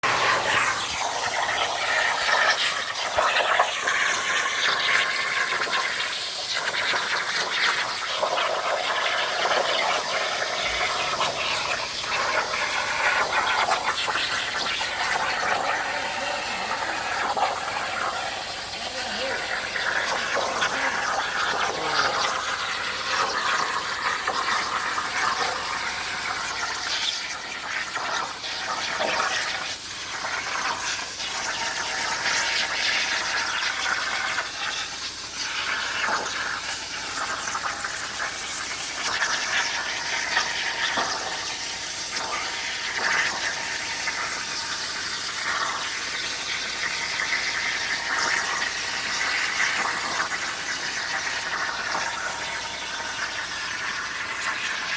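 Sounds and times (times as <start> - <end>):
plasma cutter torch hissing: 0.0 - 54.9.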